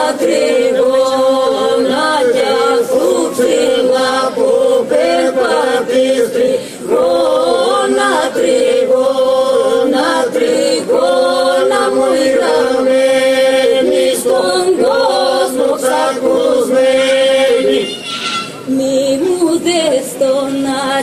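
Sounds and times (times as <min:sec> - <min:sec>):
sustained vocal drone: 0:00.0 - 0:17.9
group singing unaccompanied: 0:00.0 - 0:18.0, 0:18.7 - 0:21.0.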